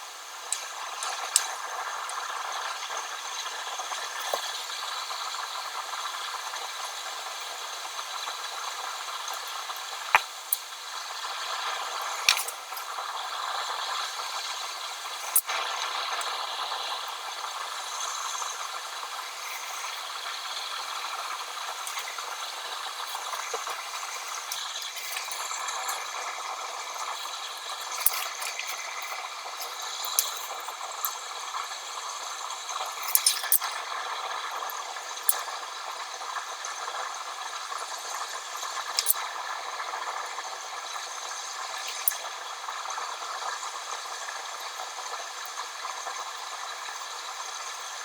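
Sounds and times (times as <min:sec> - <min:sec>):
steady hiss: 0:00.0 - 0:48.0.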